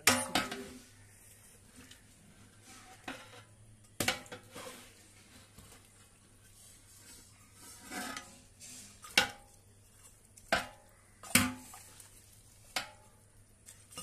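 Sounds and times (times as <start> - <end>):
stirring wet stew: 0.3 - 14.0.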